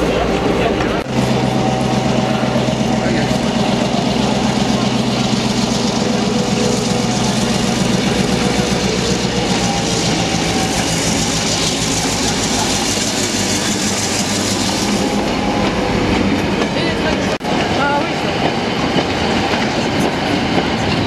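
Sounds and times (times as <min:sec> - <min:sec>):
diesel locomotive engine throbbing: 0:00.0 - 0:21.0.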